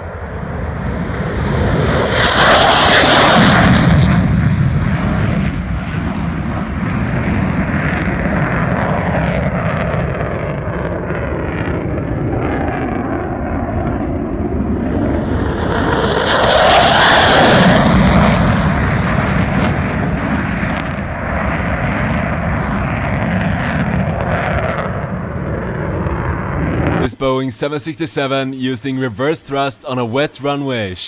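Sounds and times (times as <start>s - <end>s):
fighter jets roaring: 0.0s - 31.0s.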